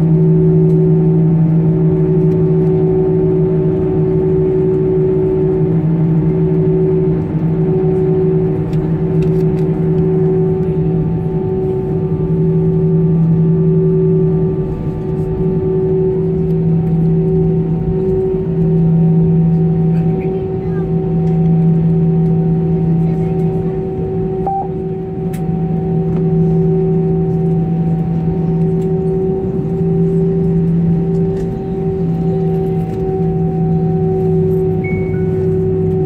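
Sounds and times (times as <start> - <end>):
aircraft engines humming: 0.0 - 36.0.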